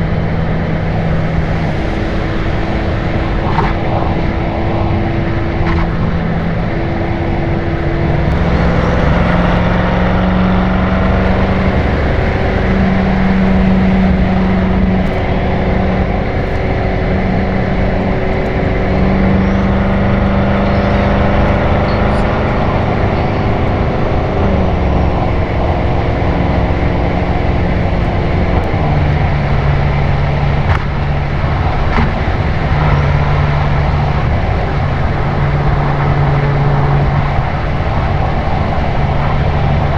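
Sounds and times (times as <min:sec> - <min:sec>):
car exhaust drone: 0:00.0 - 0:39.9
tyre and wind noise: 0:00.0 - 0:39.9.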